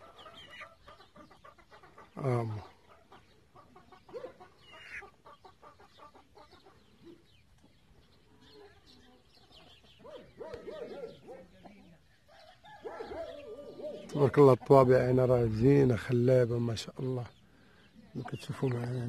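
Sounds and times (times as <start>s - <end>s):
chickens clucking: 0.0s - 19.0s
small birds chirping: 0.0s - 19.0s.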